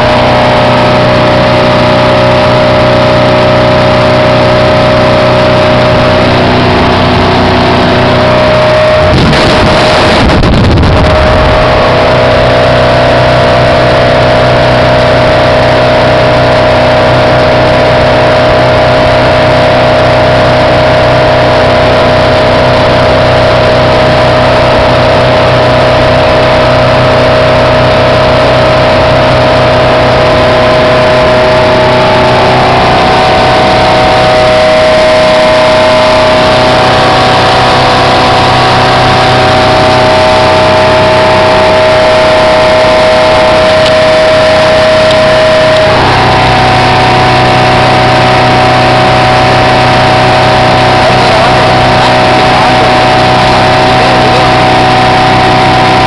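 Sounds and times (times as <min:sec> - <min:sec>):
rushing water: 0:00.0 - 0:56.0
speedboat engine running: 0:00.0 - 0:56.0.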